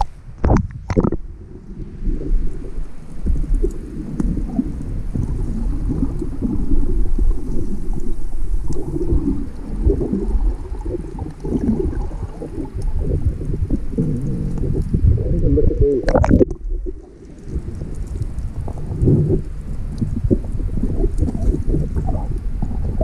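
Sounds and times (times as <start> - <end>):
muffled underwater rumbling and gurgling: 0.0 - 23.0.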